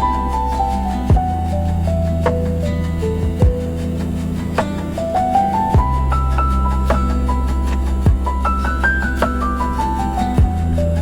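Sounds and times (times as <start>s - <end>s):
calm instrumental music: 0.0s - 11.0s
soft low drum beat: 1.1s - 11.0s.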